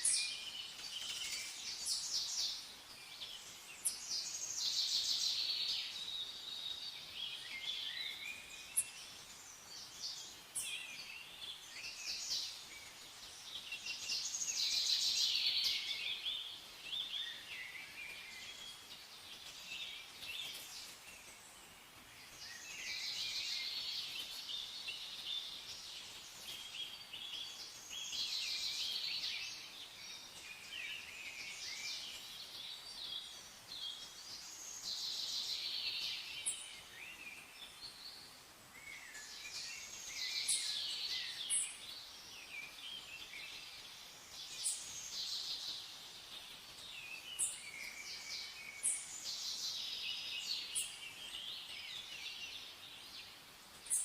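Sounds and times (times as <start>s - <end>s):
faint steady hiss: 0.0s - 54.0s
songbirds chirping and trilling: 0.0s - 54.0s.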